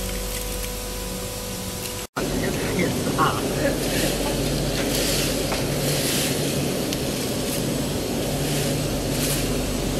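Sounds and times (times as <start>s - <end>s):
machinery humming: 0.0s - 9.9s.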